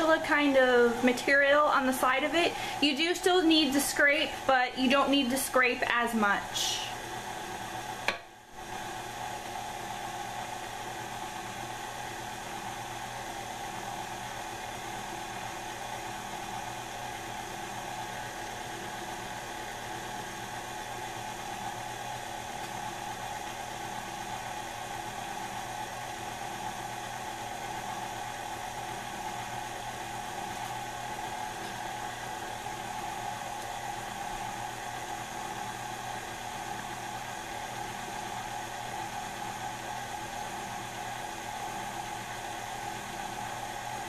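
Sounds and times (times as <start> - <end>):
stand mixer running: 0.0 - 44.0.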